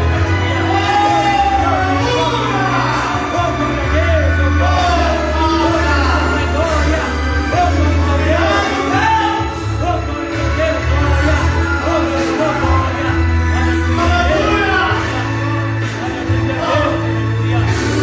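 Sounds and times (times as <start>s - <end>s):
band playing worship music: 0.0s - 18.0s
voices singing: 0.0s - 18.0s.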